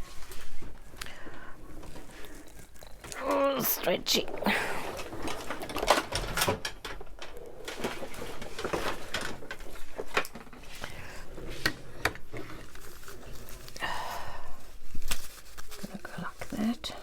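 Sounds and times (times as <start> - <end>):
paper rustling: 0.0 - 17.0.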